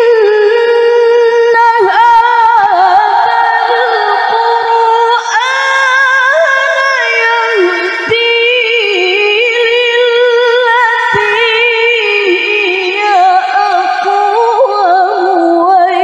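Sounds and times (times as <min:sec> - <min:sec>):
woman chanting through microphone: 0:00.0 - 0:16.0.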